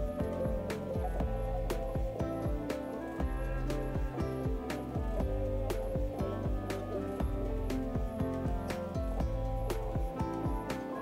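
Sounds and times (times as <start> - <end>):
background music with a steady beat: 0.0 - 11.0.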